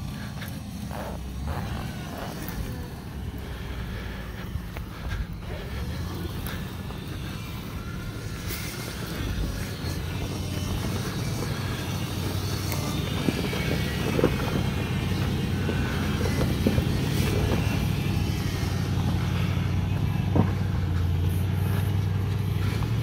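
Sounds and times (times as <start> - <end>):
car engine running at a crawl: 0.0 - 23.0.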